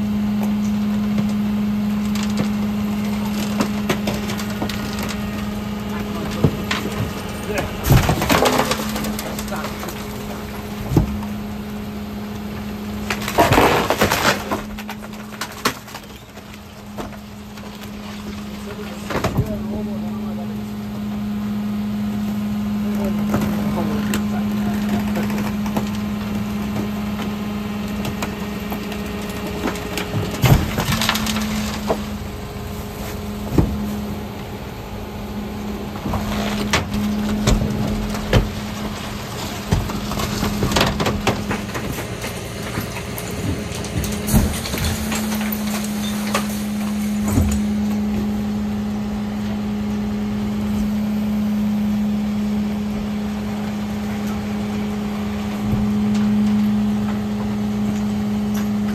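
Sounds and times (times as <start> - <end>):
hydraulic hum: 0.0 - 58.9.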